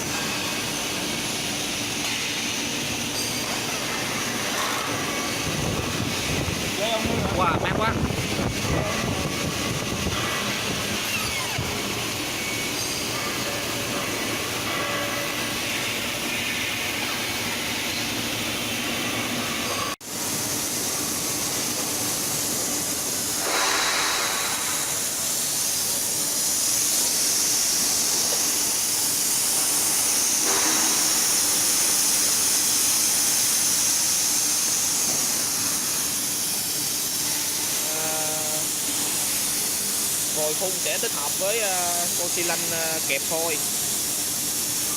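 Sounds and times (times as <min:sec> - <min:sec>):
cooling unit hissing: 0:00.0 - 0:44.9.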